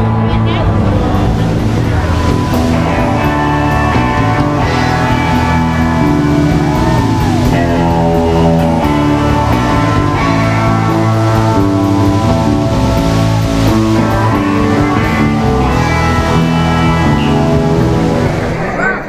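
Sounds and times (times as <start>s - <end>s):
bass line: 0.0s - 18.8s
electric guitars: 0.0s - 19.0s.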